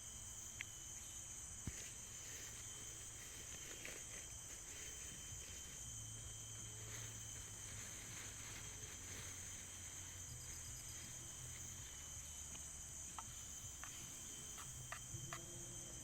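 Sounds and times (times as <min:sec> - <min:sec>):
high-pitched insect chorus: 0:00.0 - 0:16.0
thin continuous whine: 0:00.0 - 0:16.0.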